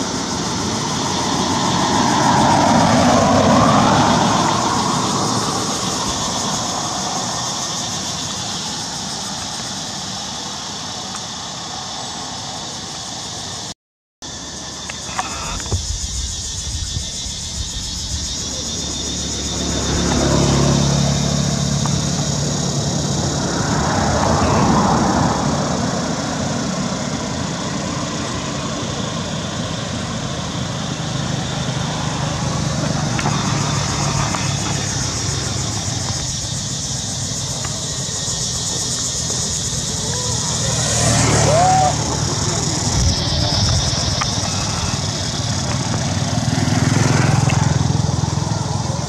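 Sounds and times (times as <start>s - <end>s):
vehicles passing on road: 0.0s - 49.0s.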